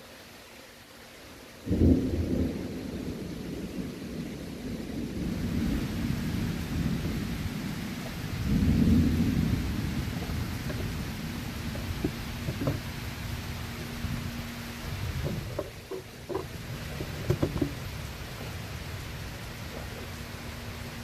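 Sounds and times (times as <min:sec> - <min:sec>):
rain hissing: 0:00.0 - 0:21.0
thunder rumbling: 0:01.6 - 0:21.0.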